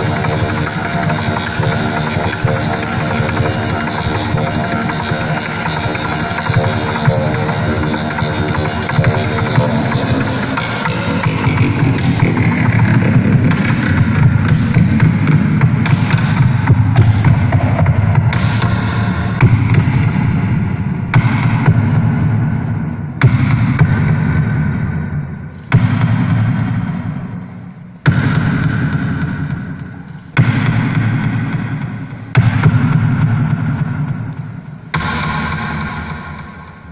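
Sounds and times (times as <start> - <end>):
loud electronic music: 0.0 - 36.9.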